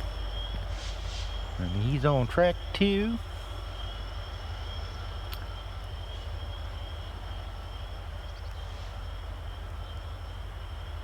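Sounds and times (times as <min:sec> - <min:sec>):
distant freight train rumble: 0:00.0 - 0:11.0.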